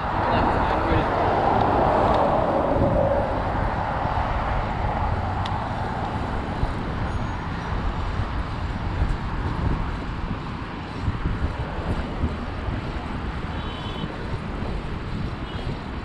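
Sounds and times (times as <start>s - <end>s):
bicycle tyre hum: 0.0s - 16.0s
wind buffeting microphone: 0.0s - 16.0s.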